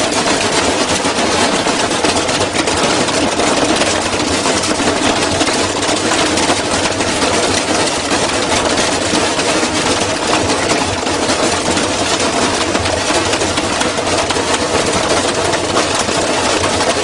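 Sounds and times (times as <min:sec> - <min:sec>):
washing machine rattling and banging: 0:00.0 - 0:17.0.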